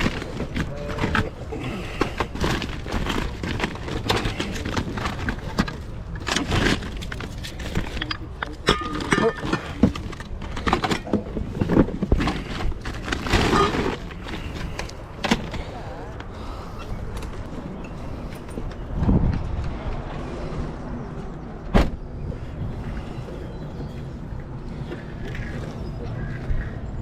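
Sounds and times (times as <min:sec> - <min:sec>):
faint voices: 0:00.0 - 0:27.0.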